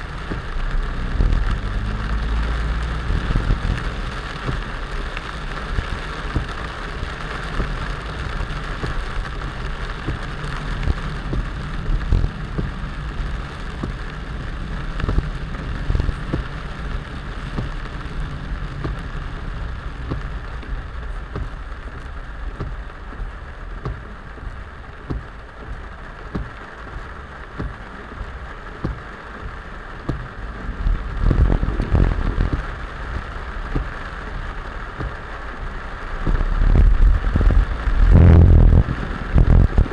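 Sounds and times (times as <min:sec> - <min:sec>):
heavy rain downpour: 0:00.0 - 0:39.9
low rumble: 0:00.0 - 0:39.9.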